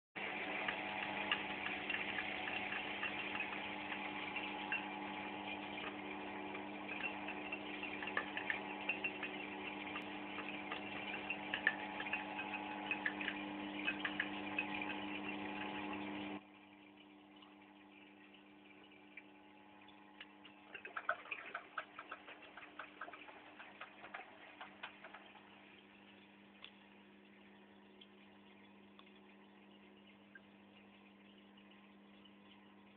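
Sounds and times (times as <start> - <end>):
steady hum: 0.2 - 32.9.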